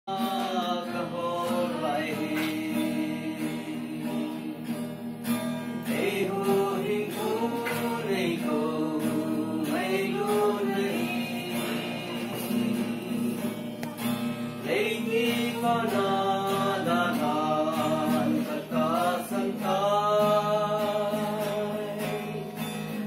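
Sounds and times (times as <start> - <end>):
voices singing gospel song: 0.1 - 5.0, 5.7 - 13.8, 14.5 - 23.0
guitar accompaniment: 0.1 - 23.0.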